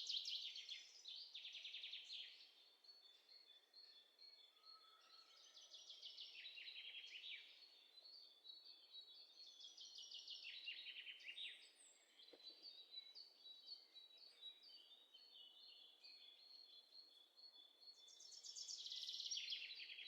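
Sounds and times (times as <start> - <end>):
songbird trill: 0.0 - 20.0.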